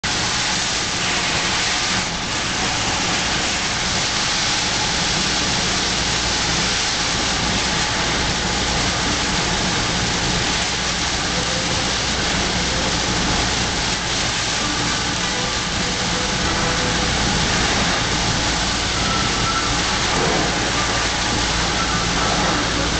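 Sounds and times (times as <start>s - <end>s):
engine and road hum: 0.0s - 22.9s
heavy rain on car roof: 0.0s - 22.9s.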